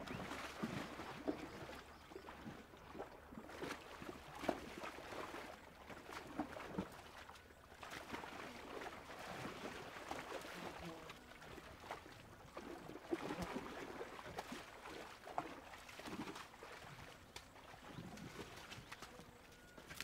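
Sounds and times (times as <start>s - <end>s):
mud and water splashing: 0.0s - 20.0s.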